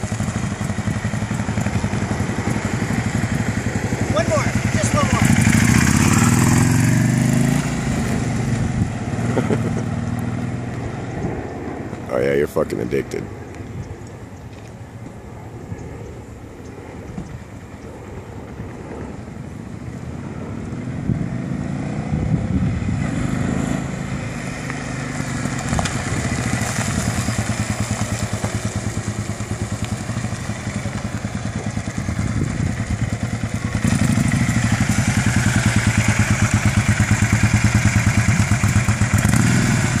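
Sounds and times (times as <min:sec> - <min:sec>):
motorcycle engine passing: 0:00.0 - 0:11.6, 0:18.9 - 0:40.0.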